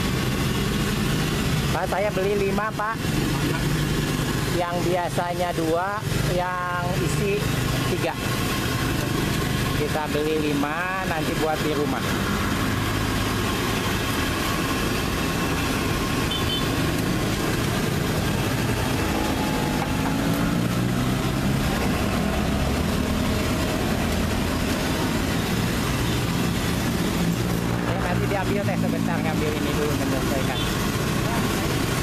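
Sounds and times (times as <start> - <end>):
motorcycles passing: 0.0 - 32.0
traffic road noise: 0.0 - 32.0.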